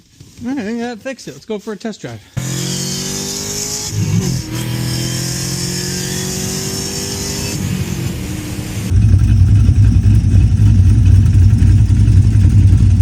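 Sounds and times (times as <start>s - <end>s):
car engine running: 2.4s - 13.0s.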